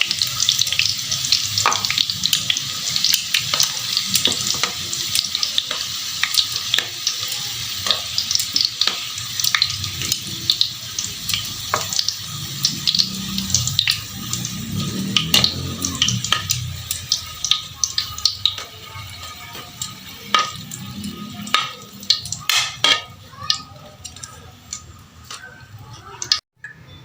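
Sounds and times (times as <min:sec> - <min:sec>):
food sizzling in oil: 0:00.0 - 0:26.4.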